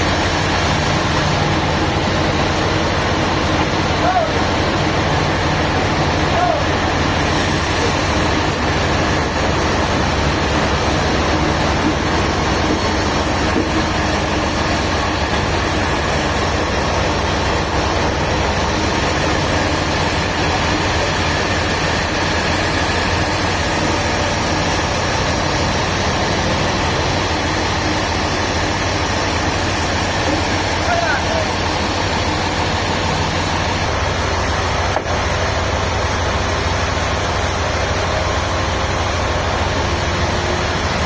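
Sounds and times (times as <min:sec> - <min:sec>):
sawmill machinery running: 0:00.0 - 0:41.0.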